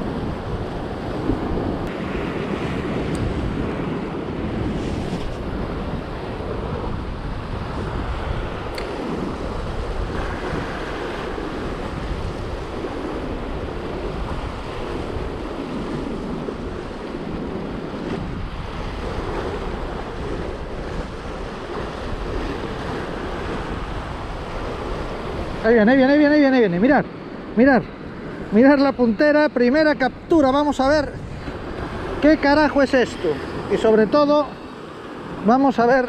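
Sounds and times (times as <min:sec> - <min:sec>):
surf washing over rocks: 0:00.0 - 0:36.0
wind buffeting microphone: 0:00.0 - 0:36.0.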